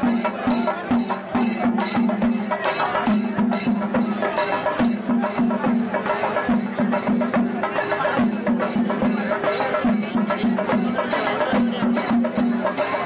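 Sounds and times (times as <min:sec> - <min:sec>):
festival percussion music: 0:00.0 - 0:13.0
pitched drum notes: 0:00.0 - 0:13.0.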